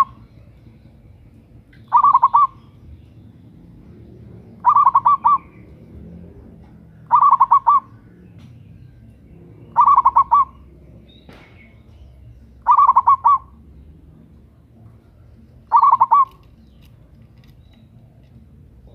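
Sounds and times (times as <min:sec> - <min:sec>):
dove cooing: 0:00.0 - 0:00.3, 0:01.8 - 0:02.8, 0:03.6 - 0:08.5, 0:09.2 - 0:18.9.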